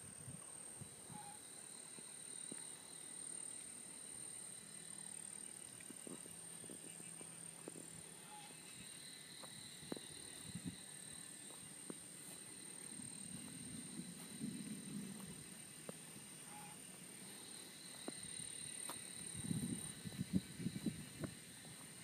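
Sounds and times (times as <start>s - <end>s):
high-pitched insect drone: 0.1s - 22.0s.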